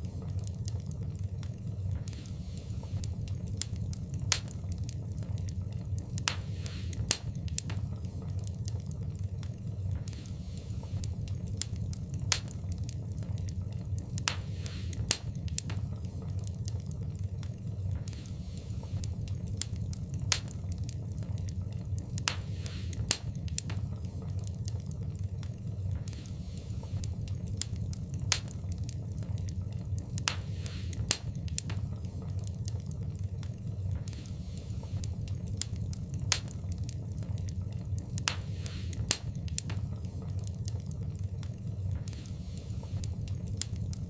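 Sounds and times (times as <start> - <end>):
fire crackling and popping: 0.0 - 44.0
low fire rumble: 0.0 - 44.0.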